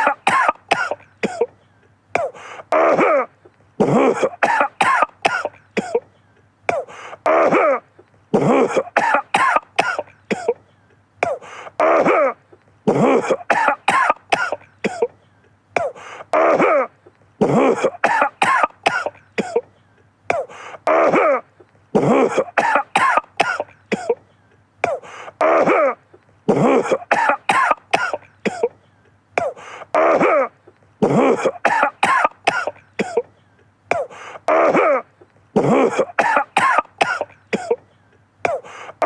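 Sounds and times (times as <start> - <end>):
man coughing: 0.0 - 1.6, 2.2 - 28.8, 29.4 - 39.0.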